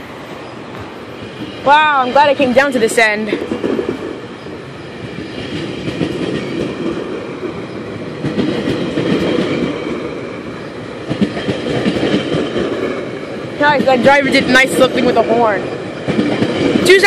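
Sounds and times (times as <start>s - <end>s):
train wheels rumbling on rail: 0.0s - 17.0s
clickety-clack over rail joints: 0.6s - 17.0s.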